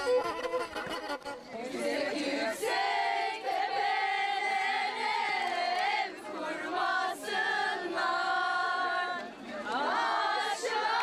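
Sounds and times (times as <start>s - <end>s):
group of people singing: 1.6s - 11.0s.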